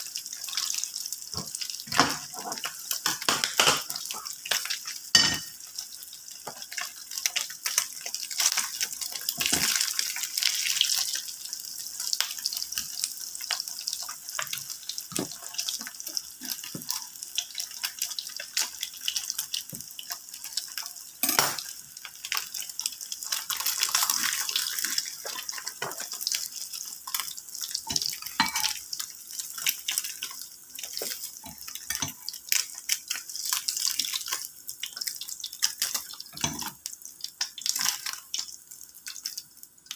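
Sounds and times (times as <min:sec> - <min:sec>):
meat sizzling in oil: 0:00.0 - 0:39.9.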